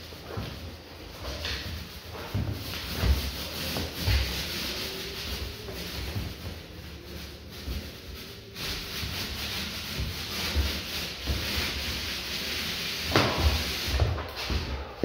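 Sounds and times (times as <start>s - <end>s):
paint roller rolling on wall: 0.0s - 15.0s.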